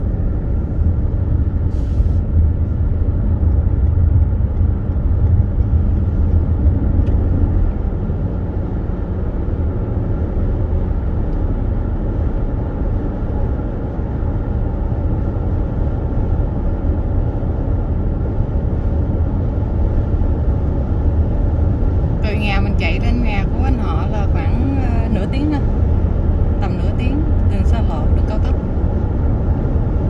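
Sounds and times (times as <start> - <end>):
car engine: 0.0 - 30.0
wind noise: 0.0 - 30.0.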